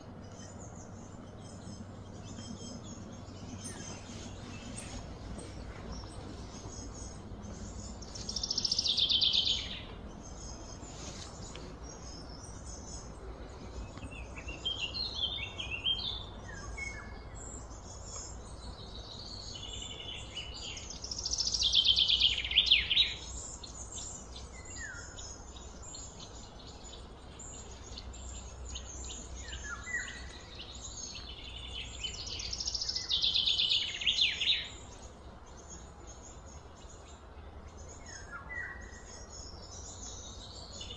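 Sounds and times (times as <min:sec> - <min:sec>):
bird chirps: 0:00.0 - 0:40.9
low steady hum: 0:00.0 - 0:40.9.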